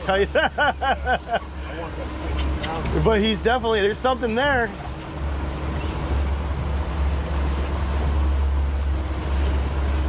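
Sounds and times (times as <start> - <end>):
boat engine droning: 0.0 - 10.0
wind: 0.0 - 10.0.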